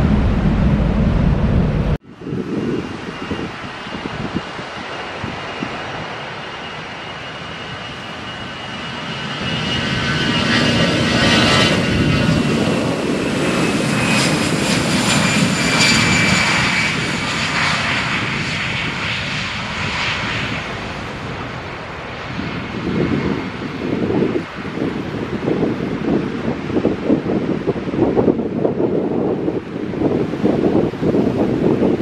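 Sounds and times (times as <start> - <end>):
jet airliner taking off: 0.0 - 32.0.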